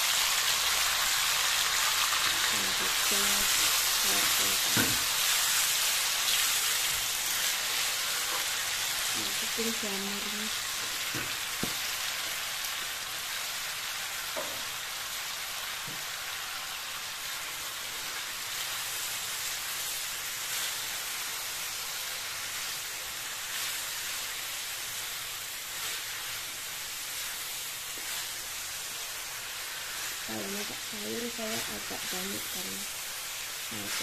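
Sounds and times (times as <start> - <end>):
vegetables sizzling in wok: 0.0 - 34.0.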